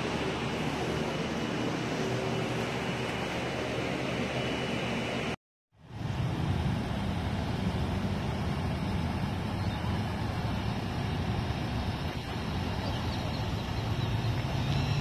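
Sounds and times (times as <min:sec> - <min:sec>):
truck engine and rolling wheels: 0:00.0 - 0:15.0.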